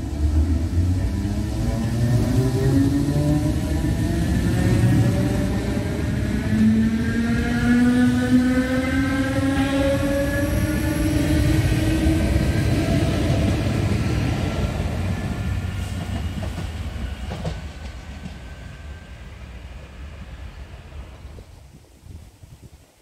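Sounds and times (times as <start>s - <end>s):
wheels rumbling on rail: 0.0s - 21.8s.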